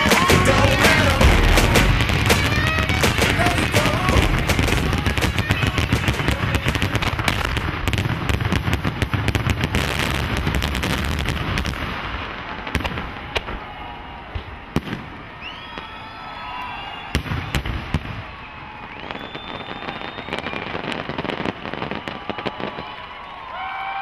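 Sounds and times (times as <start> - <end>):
fireworks bangs and crackles: 0.0 - 23.6
fireworks rumble: 0.0 - 23.6.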